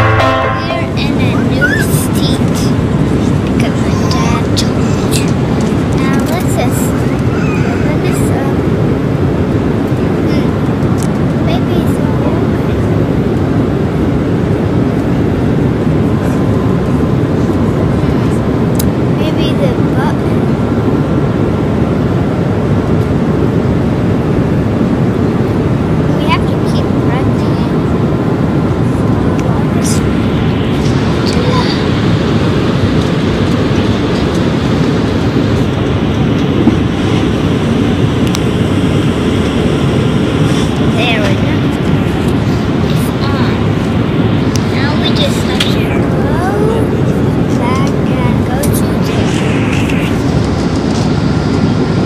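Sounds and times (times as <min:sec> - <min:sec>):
jet engines rumbling: 0:00.0 - 0:52.0.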